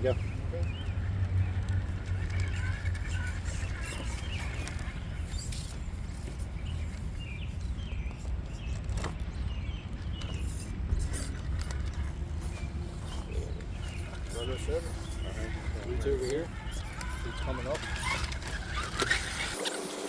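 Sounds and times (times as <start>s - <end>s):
motor and gears whirring: 0.0s - 20.0s
outdoor background rumble: 0.0s - 20.0s.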